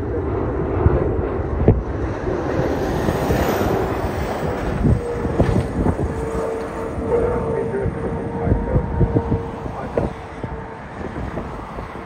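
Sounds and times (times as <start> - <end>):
jet airliner rumble overhead: 0.0 - 12.0
wind buffeting microphone: 0.0 - 12.0.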